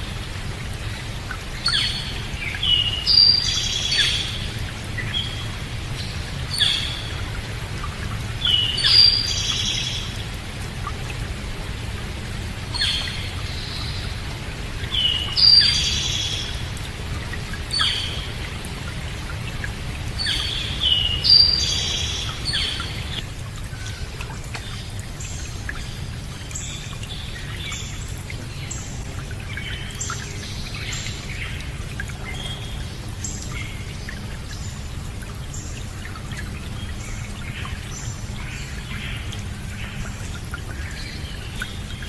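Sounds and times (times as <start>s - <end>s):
birds singing and calling: 0.0s - 10.3s, 12.7s - 42.0s
running water: 0.0s - 42.0s.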